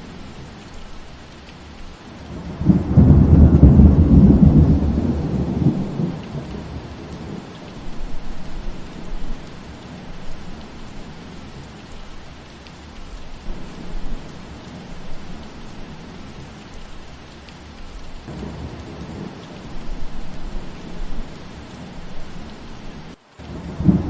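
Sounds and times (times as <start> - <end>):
rain falling through trees: 0.0 - 24.0.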